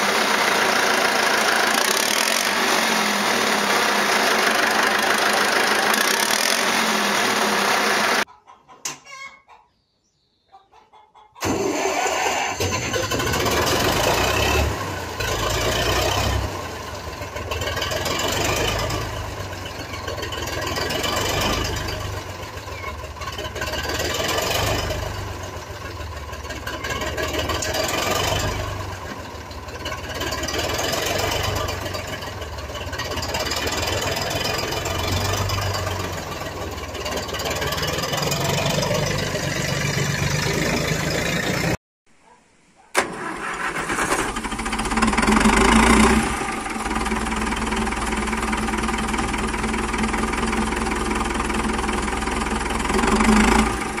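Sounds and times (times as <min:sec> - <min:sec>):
diesel tractor engine running: 0:00.0 - 0:08.3, 0:11.4 - 0:41.8, 0:43.0 - 0:54.0.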